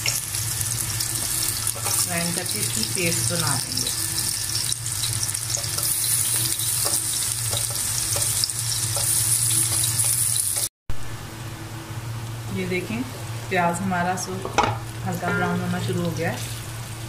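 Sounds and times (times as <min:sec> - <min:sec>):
onions sizzling in hot oil: 0:00.0 - 0:10.7, 0:13.6 - 0:17.0.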